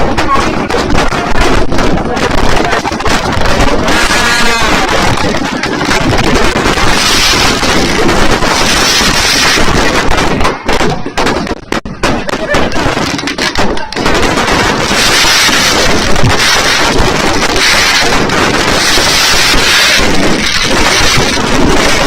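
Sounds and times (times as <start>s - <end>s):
fireworks and firecrackers bangs: 0.0s - 22.0s.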